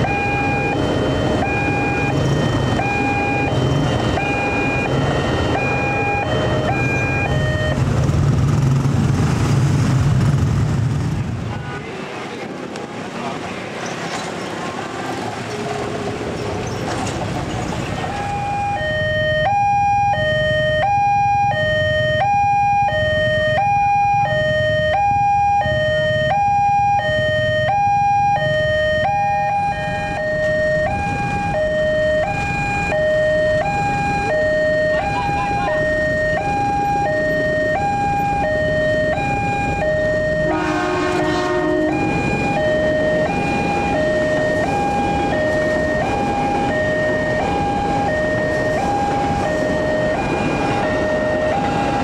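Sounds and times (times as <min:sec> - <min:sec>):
level crossing two-tone alarm: 0:00.0 - 0:07.8, 0:18.0 - 0:52.0
road traffic noise: 0:00.0 - 0:52.0.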